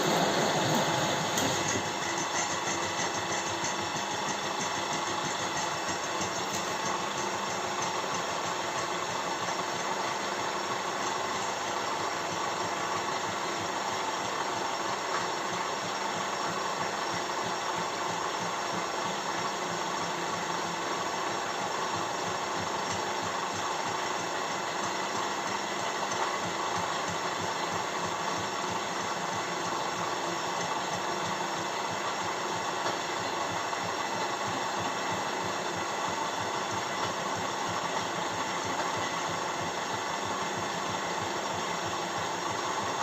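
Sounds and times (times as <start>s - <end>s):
drilling machine humming: 0.0s - 43.0s.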